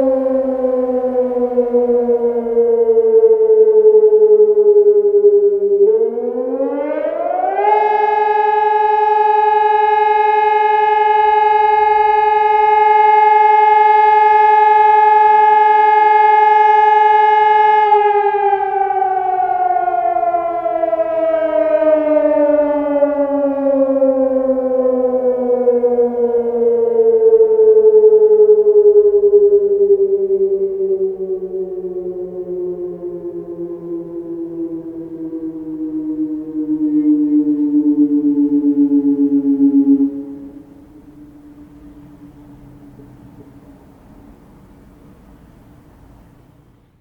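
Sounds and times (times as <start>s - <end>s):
electronic siren tone: 0.0s - 43.8s.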